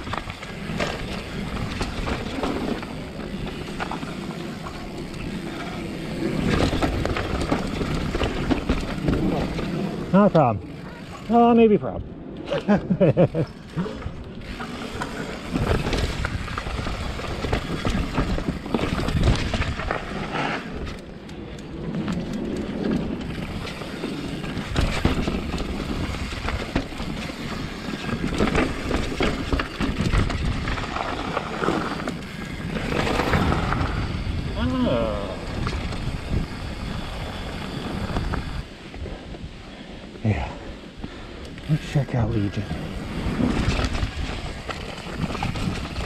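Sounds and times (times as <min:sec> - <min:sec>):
bike knocking and rattling: 0:00.0 - 0:11.6, 0:12.6 - 0:39.1, 0:41.8 - 0:46.0
bike tyres rumbling on dirt: 0:00.0 - 0:46.0.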